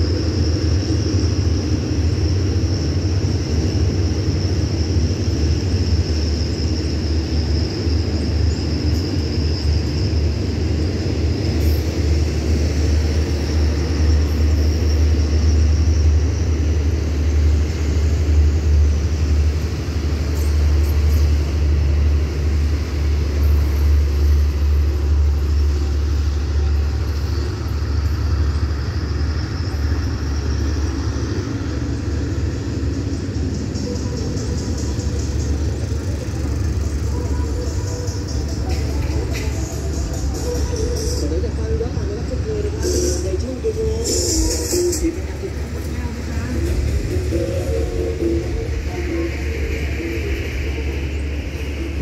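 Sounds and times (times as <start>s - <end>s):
train carriages rumbling on track: 0.0s - 52.0s.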